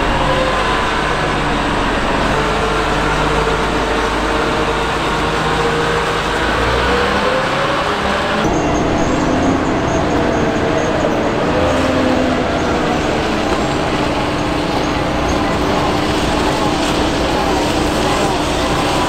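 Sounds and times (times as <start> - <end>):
steady whine: 0.0 - 19.0
wheel loader diesel engine: 0.0 - 19.0.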